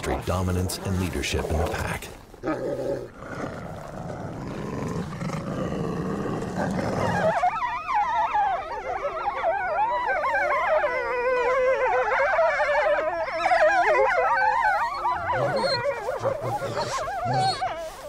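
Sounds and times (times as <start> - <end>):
wolves growling and snarling: 0.0 - 18.0
wolves whining and yelping: 2.4 - 18.0.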